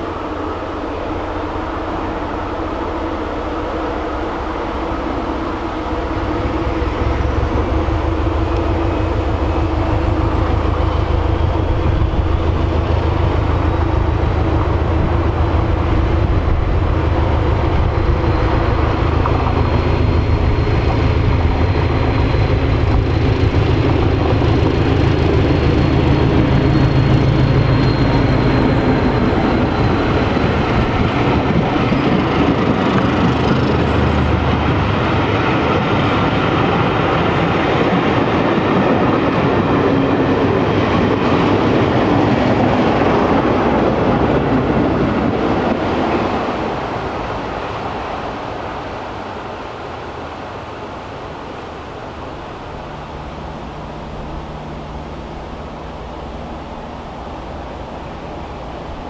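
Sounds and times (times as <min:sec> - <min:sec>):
coaches rolling on rails: 0:00.0 - 0:59.0
diesel locomotive passing: 0:00.0 - 0:59.0.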